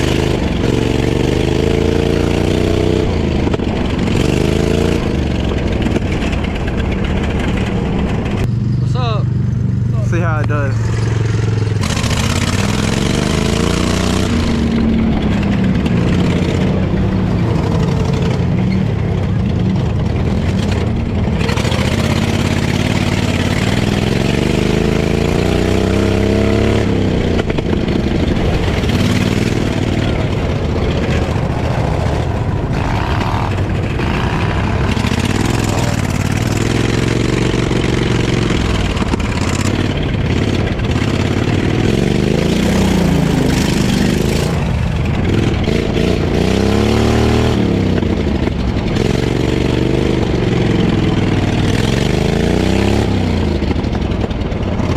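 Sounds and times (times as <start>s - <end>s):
lawnmower engine revving: 0.0s - 9.3s, 9.9s - 54.9s.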